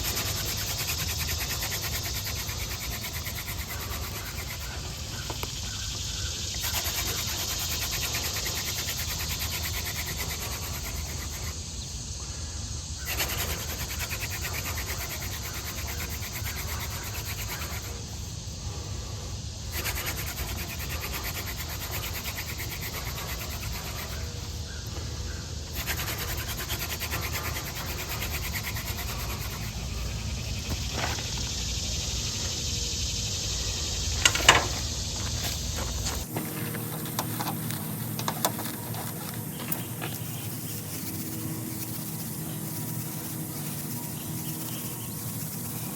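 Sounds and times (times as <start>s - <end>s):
hand drill rasping on wood: 0.0s - 5.8s, 6.5s - 11.6s, 13.0s - 18.1s, 19.6s - 25.0s, 25.6s - 31.5s, 34.2s - 45.9s.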